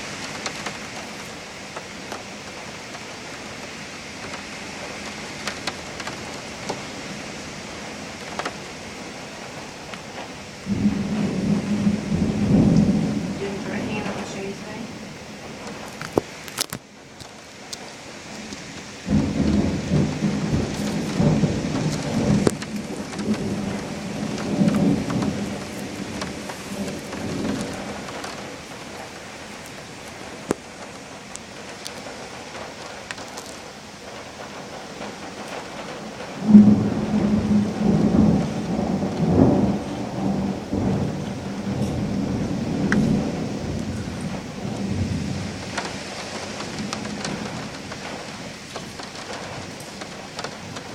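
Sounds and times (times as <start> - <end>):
steady rain: 0.0 - 50.9
thunder rumbling: 4.0 - 16.6, 17.8 - 50.9.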